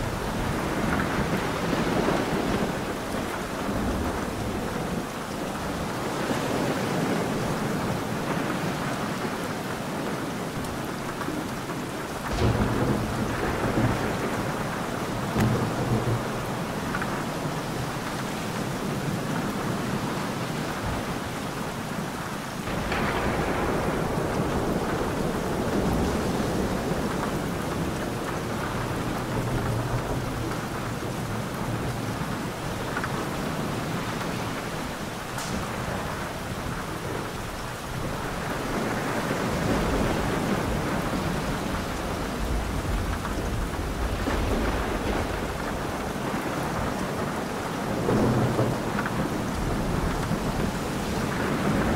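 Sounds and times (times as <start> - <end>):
thunder rumbling: 0.0 - 21.6, 22.6 - 51.9
heavy rain falling: 0.0 - 51.9.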